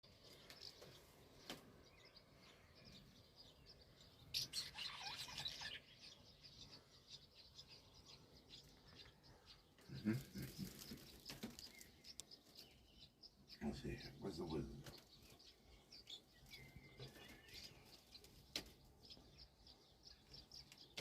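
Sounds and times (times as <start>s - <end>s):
swallows twittering: 0.1s - 21.0s.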